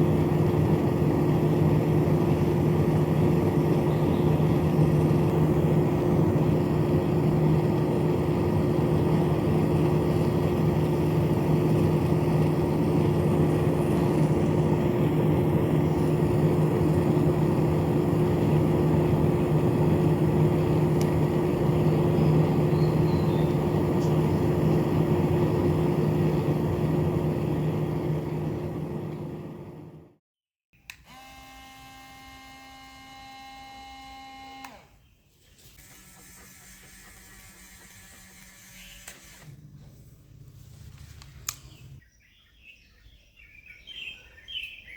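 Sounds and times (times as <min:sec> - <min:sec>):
small motor spinning fan whirring: 0:00.0 - 0:30.0, 0:31.1 - 0:35.0, 0:35.8 - 0:39.6.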